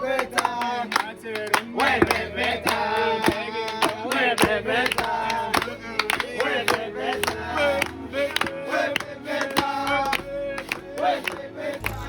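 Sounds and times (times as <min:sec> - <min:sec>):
group of voices chanting: 0:00.0 - 0:12.0.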